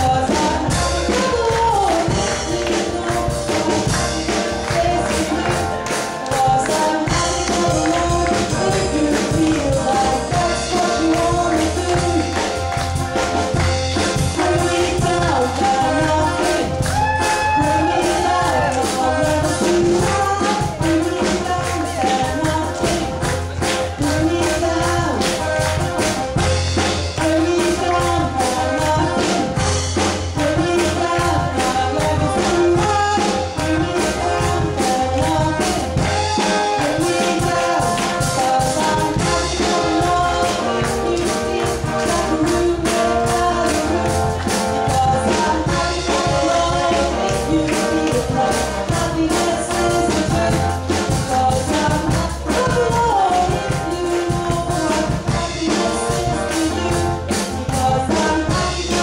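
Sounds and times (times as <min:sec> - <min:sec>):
person singing into microphone: 0:00.0 - 0:59.0
upbeat backing music: 0:00.0 - 0:59.0.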